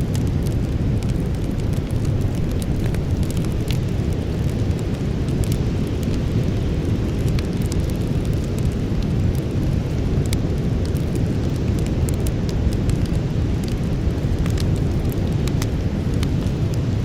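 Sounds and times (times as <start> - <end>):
burning wood crackling and popping: 0.0 - 17.0
campfire low rumble: 0.0 - 17.0.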